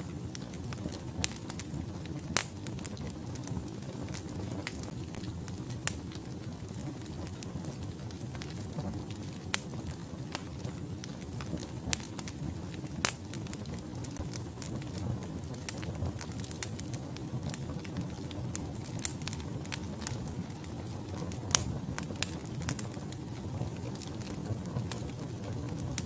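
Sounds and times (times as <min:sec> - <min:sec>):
logs crackling and popping: 0:00.0 - 0:26.0
low rumble of flames: 0:00.0 - 0:26.0.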